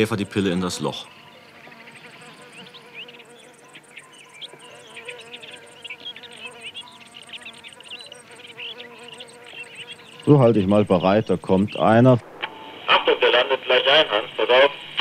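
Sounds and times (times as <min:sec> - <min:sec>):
insects chirping and buzzing: 0:00.0 - 0:15.0.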